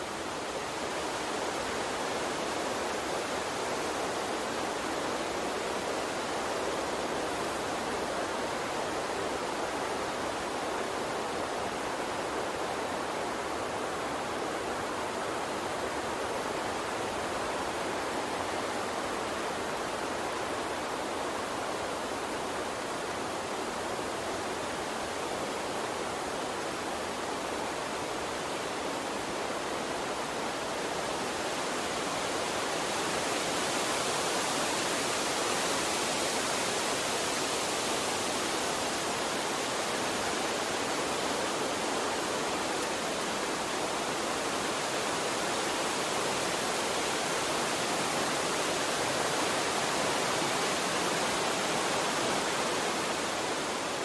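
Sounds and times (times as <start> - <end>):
gentle water stream: 0.0 - 54.0.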